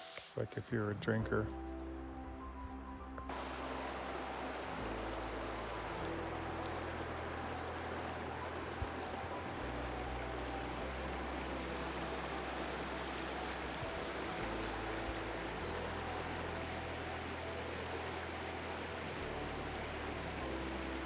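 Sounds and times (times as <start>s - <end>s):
stream flowing: 1.3s - 21.0s.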